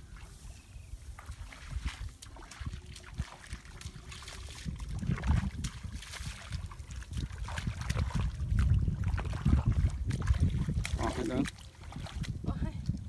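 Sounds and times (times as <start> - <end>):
wind rumble on microphone: 0.0 - 13.0
splashing in muddy water: 1.0 - 13.0.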